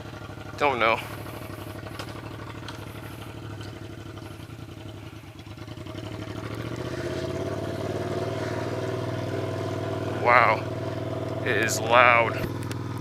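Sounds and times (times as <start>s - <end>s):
loud motorcycle engine: 0.0s - 13.0s.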